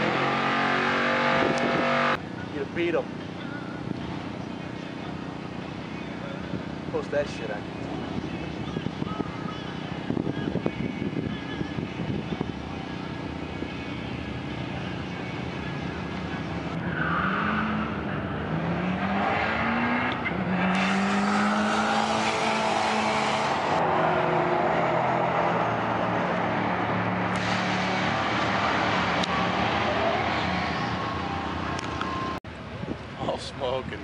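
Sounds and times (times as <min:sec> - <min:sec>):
car engine at full throttle: 0:00.0 - 0:32.4.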